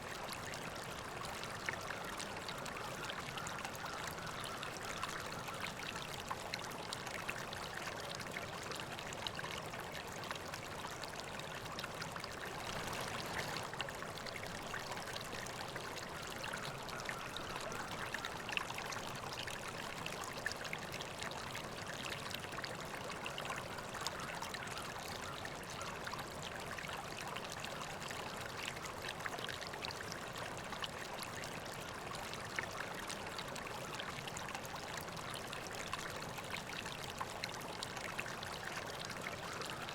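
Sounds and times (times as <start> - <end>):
stream flowing with splashes: 0.0 - 39.9.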